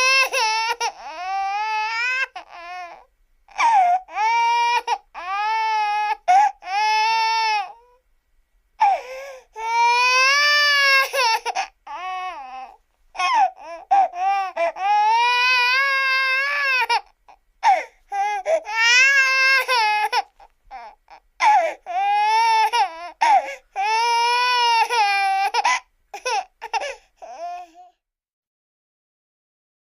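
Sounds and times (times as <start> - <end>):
baby gasping sobs: 0.0 - 7.0, 8.8 - 27.9
baby crying: 0.0 - 8.0, 8.8 - 28.0.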